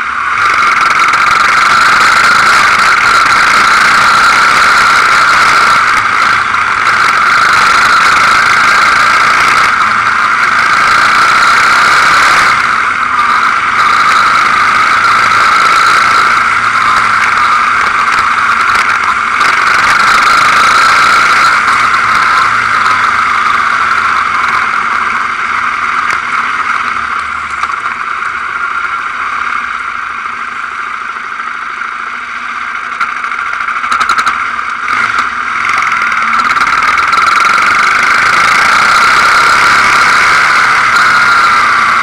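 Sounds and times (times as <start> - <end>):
quad bike engine running: 0.0 - 42.0.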